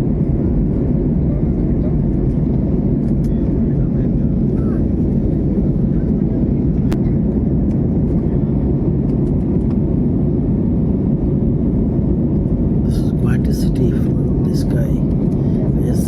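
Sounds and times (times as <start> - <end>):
airliner cabin engine and airflow noise: 0.0 - 16.0.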